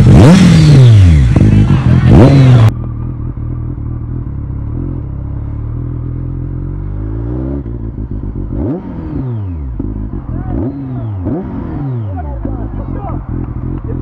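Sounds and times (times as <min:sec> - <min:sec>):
motorcycle engine: 0:00.0 - 0:14.0.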